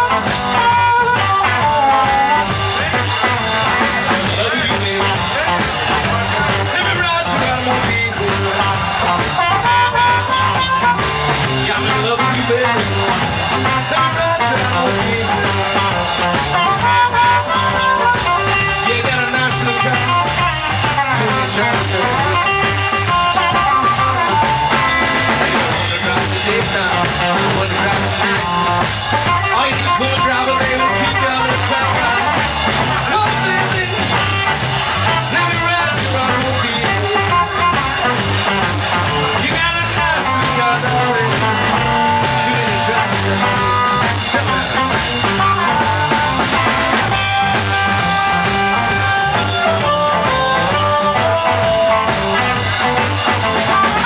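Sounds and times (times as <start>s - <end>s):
blues harmonica: 0.0s - 54.0s
drum kit: 0.0s - 54.0s
electric guitar: 0.0s - 54.0s
man singing into microphone: 0.1s - 24.9s, 25.5s - 47.1s.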